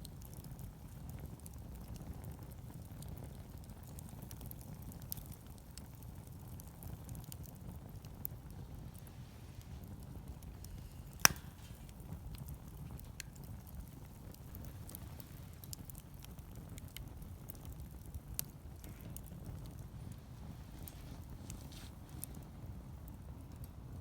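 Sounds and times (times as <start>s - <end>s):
wood fire crackling: 0.0s - 24.0s
sharp fire pops: 1.4s - 23.6s.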